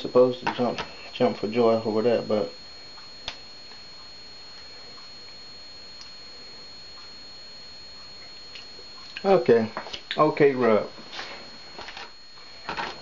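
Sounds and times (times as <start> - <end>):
steady hiss: 0.0 - 13.0
thin high whine: 0.0 - 13.0.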